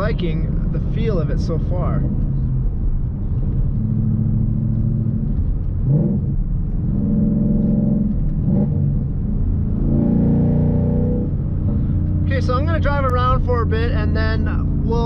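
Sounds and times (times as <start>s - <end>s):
car engine shifting gears: 0.0s - 15.0s.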